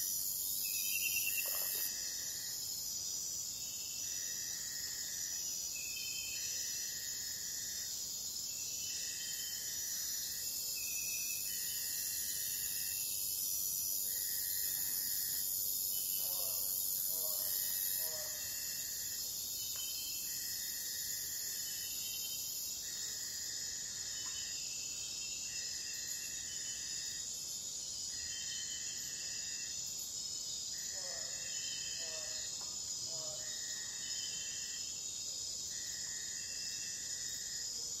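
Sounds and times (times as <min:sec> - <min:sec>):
insect call: 0:00.0 - 0:38.0.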